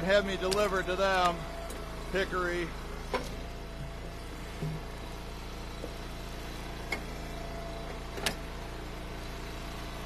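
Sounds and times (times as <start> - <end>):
small gas engine running: 0.0 - 10.0.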